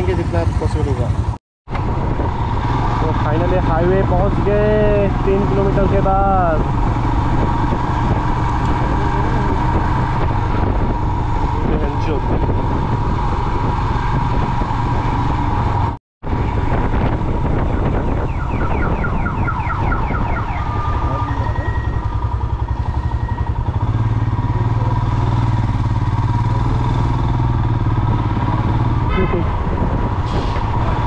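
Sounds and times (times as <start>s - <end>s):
motorcycle engine running: 0.0s - 16.0s, 17.0s - 30.2s.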